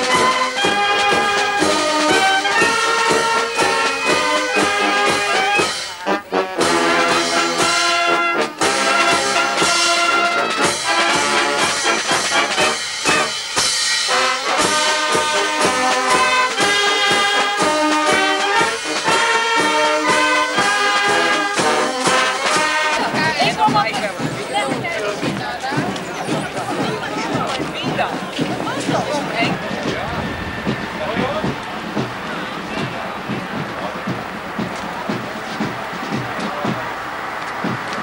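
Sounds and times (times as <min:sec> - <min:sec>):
wind band playing a tune: 0:00.0 - 0:38.0.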